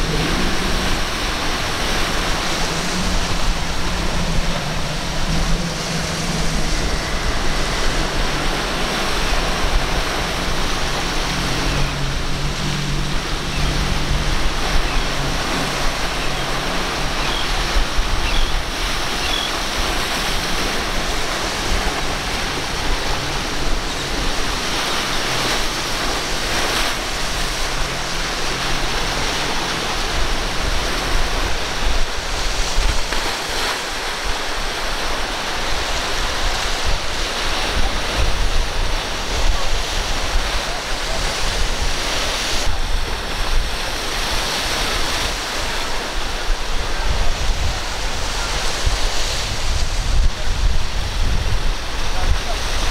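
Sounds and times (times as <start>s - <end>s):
outboard motors droning: 0.0s - 52.9s
waves breaking: 0.0s - 52.9s
wind on microphone: 0.0s - 52.9s.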